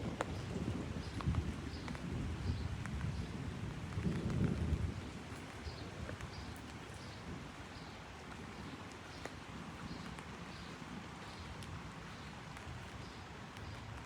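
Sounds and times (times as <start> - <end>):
footsteps on wet pavement: 0.0 - 14.0
rain pattering on umbrella: 0.0 - 14.0.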